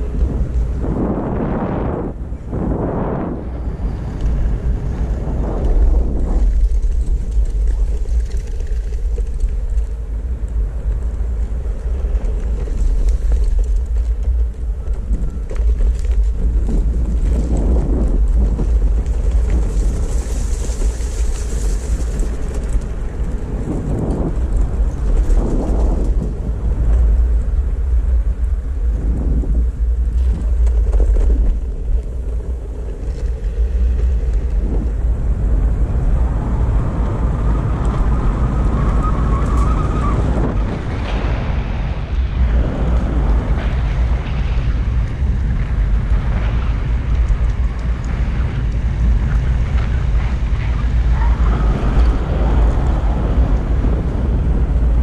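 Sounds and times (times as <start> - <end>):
skateboard wheels road noise: 0.0 - 55.0
wind rumble on microphone: 0.0 - 55.0.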